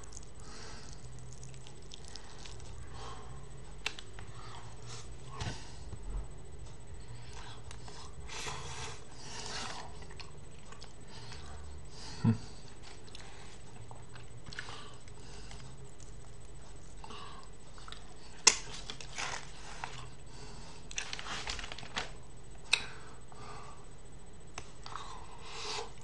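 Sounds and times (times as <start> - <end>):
rustles and eating smacks: 0.0 - 11.8, 12.5 - 22.9.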